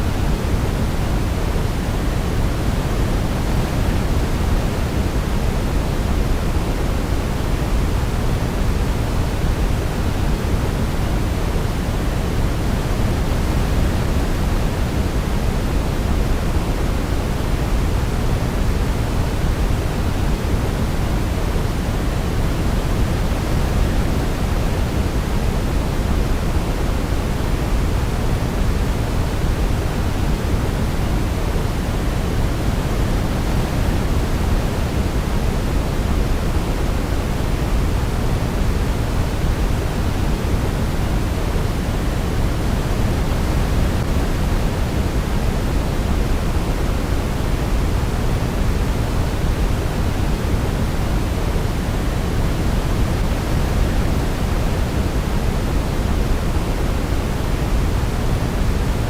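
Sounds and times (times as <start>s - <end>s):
steady synthetic hiss: 0.0s - 59.0s.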